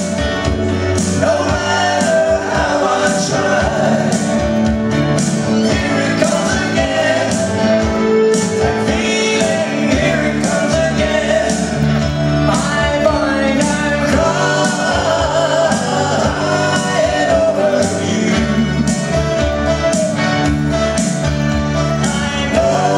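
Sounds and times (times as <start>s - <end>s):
bass guitar: 0.0s - 22.9s
electric guitar: 0.0s - 22.9s
keyboards: 0.0s - 22.9s
man singing: 0.8s - 4.7s, 5.4s - 19.4s, 21.8s - 22.9s.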